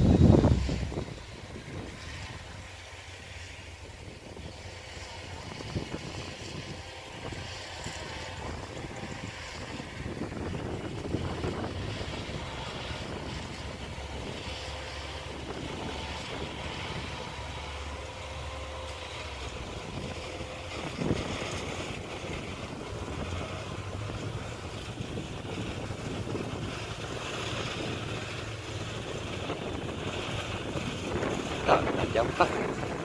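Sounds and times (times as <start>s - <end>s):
distant engine drone: 0.0s - 33.0s
wind buffeting microphone: 0.0s - 33.0s.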